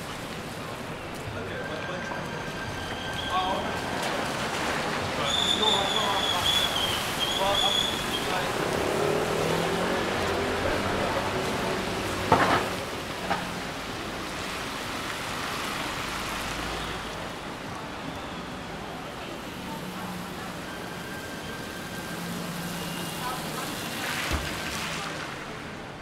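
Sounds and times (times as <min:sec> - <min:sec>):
faint traffic: 0:00.0 - 0:26.0
rain hissing: 0:02.7 - 0:25.6.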